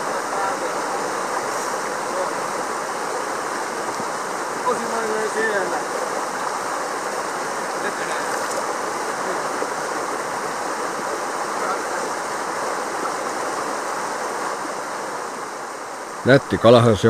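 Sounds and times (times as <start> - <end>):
river rapids rushing over rocks: 0.0 - 16.3.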